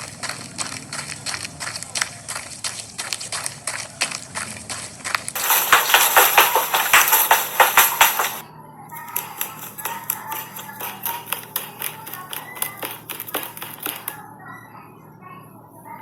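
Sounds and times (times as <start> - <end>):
running footsteps: 0.0 - 8.4, 9.0 - 14.2.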